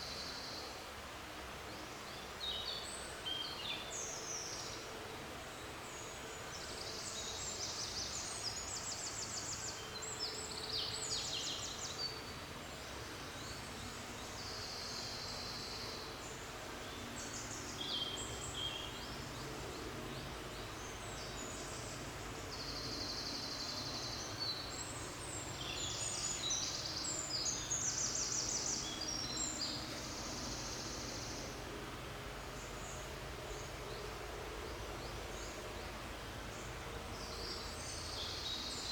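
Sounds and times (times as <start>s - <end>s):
low background noise: 0.0s - 38.9s.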